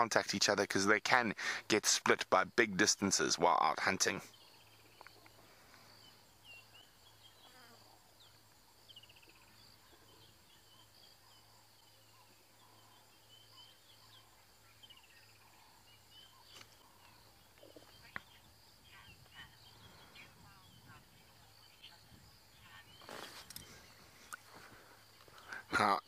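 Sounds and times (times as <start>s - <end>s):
high insect drone: 1.2s - 26.0s
bird chirps: 4.0s - 26.0s.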